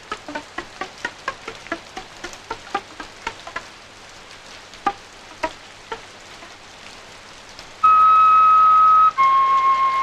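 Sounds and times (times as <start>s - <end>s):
rain hiss: 0.0s - 10.0s.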